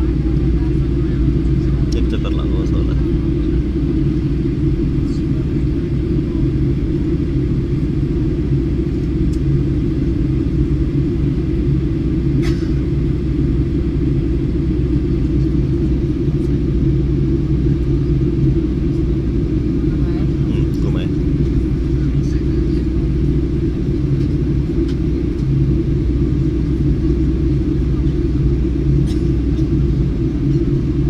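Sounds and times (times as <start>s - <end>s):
airliner cabin drone: 0.0s - 31.0s.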